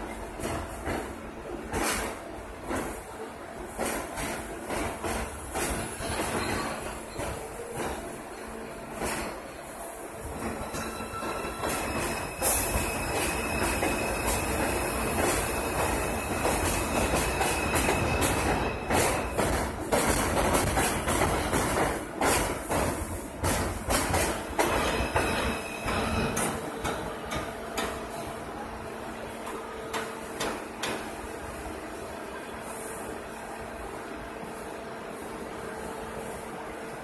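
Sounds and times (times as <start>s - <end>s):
subway train rumble: 0.0s - 37.0s.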